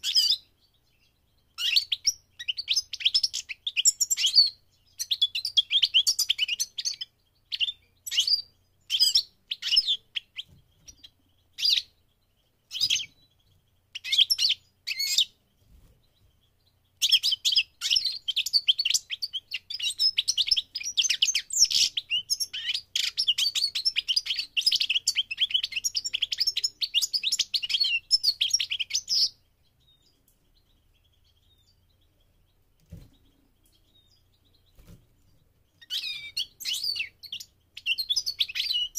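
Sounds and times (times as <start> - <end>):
finch twittering song: 0.0 - 38.9.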